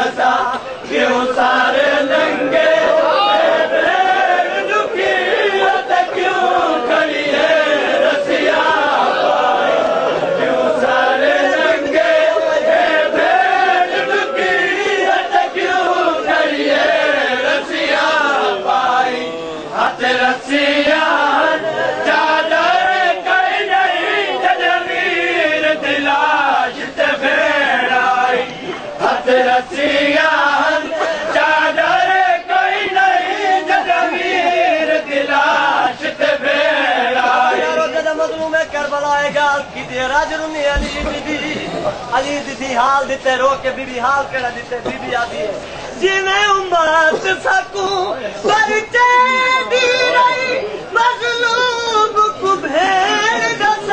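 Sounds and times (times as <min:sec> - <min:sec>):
men chanting in unison: 0:00.0 - 0:53.9.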